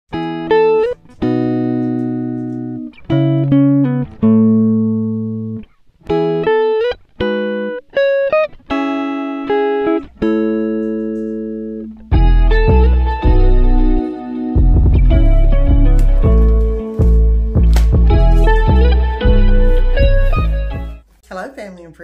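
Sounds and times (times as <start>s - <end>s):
plucked guitar music: 0.1s - 21.1s.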